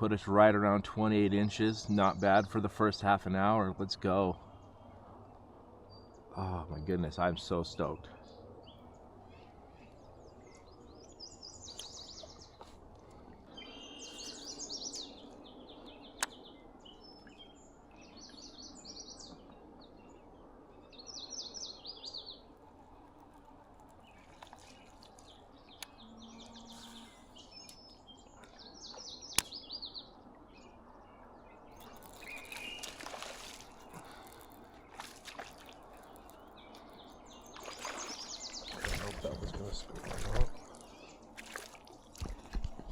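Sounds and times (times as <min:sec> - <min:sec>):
songbirds trilling: 0:00.0 - 0:42.9.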